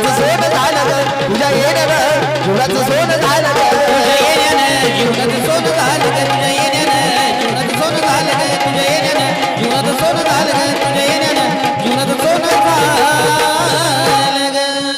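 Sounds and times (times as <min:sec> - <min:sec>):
hand drums beating: 0:00.0 - 0:14.9.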